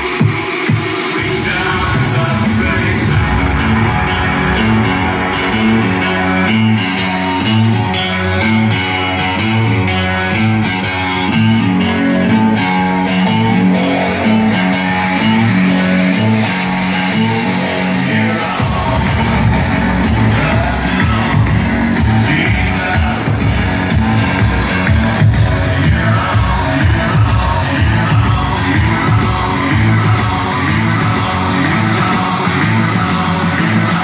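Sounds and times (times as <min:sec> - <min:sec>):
guitar song through speaker: 0:00.0 - 0:34.0.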